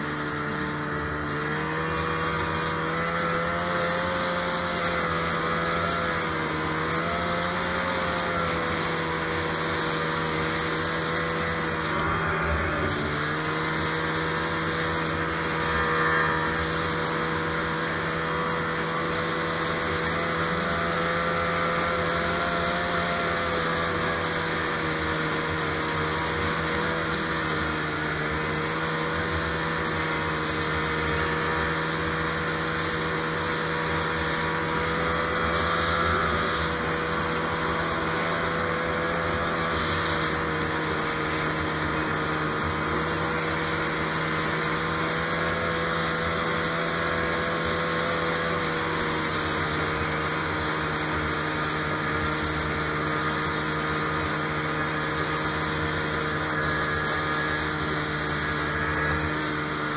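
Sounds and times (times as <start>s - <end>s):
snowmobile engine running: 0.0s - 59.9s
track and snow noise: 0.0s - 59.9s.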